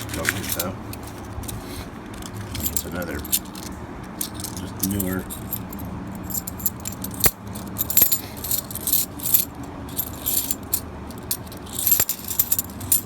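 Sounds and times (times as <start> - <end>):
coins clinking: 0.0 - 13.0.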